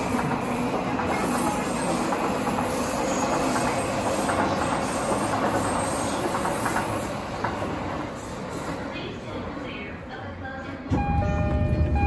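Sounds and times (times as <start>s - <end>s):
electric train rolling on rails: 0.0s - 12.0s.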